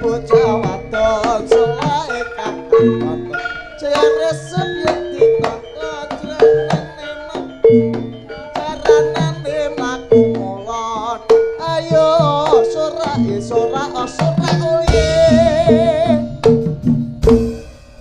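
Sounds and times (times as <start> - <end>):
melody bending in pitch: 0.0 - 16.8
drums and metal percussion beat: 0.0 - 18.0.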